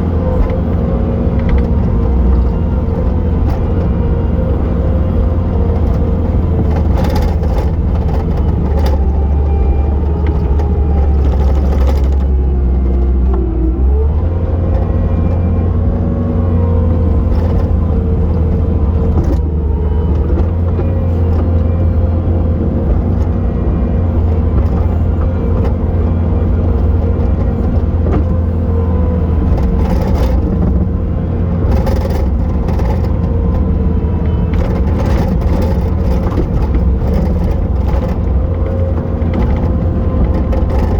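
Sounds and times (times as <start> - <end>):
hydraulics whining: 0.0 - 40.9
loader diesel engine droning: 0.0 - 40.9.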